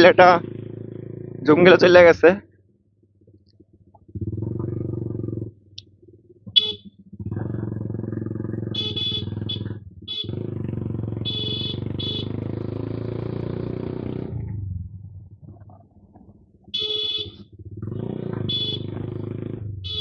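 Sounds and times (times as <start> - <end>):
motorcycle engine running loudly: 0.0 - 2.1, 3.1 - 15.0, 16.7 - 20.0.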